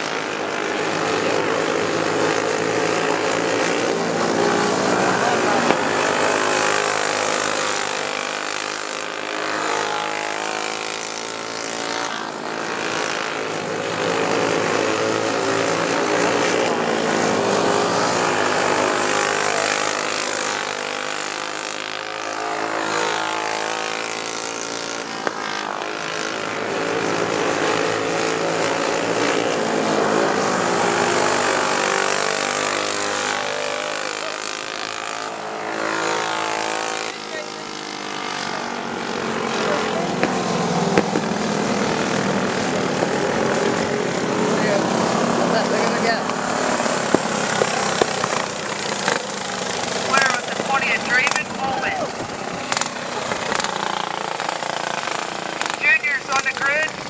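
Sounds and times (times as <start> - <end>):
go-kart engines racing: 0.0 - 57.0.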